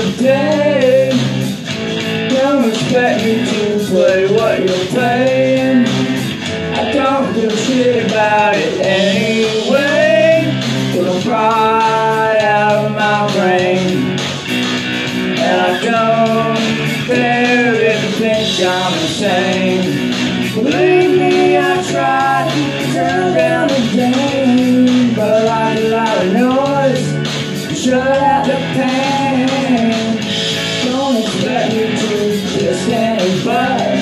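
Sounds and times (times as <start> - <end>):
man singing: 0.0 - 14.2, 15.2 - 34.0
electric guitar strumming: 0.0 - 34.0.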